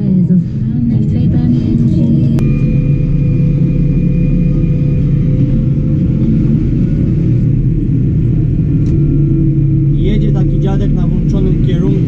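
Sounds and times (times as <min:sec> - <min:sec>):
tractor diesel engine drone: 0:00.0 - 0:12.0.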